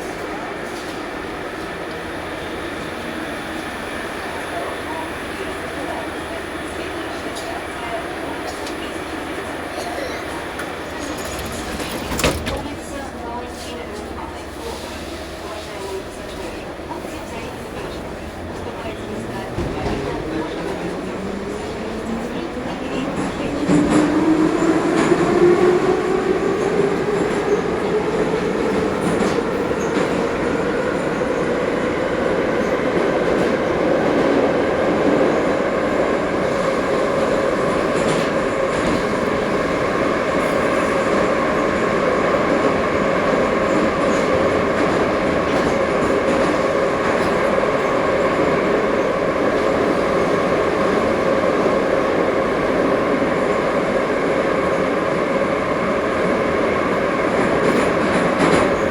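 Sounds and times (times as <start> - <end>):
train wheels rumbling on track: 0.0 - 58.9.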